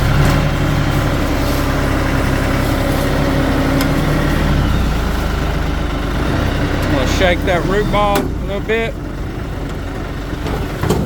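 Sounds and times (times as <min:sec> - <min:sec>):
steady hydraulic hum: 0:00.0 - 0:11.0
tractor diesel engine running: 0:00.0 - 0:11.0.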